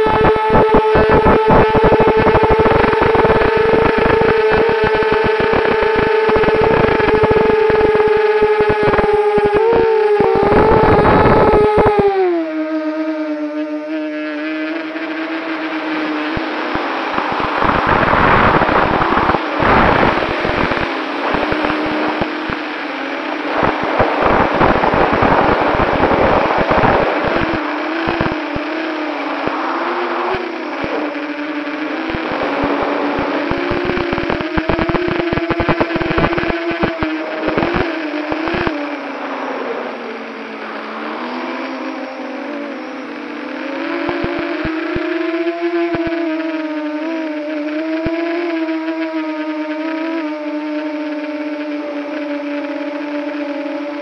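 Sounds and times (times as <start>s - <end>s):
wind buffeting: 0.0s - 46.1s
drone propellers whining: 0.0s - 54.0s.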